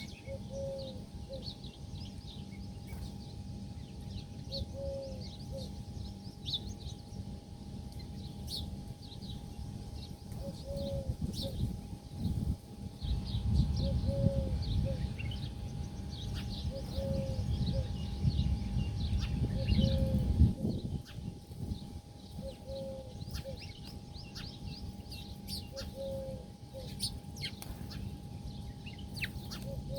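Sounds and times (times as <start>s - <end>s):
small birds chirping and twittering: 0.0s - 29.9s.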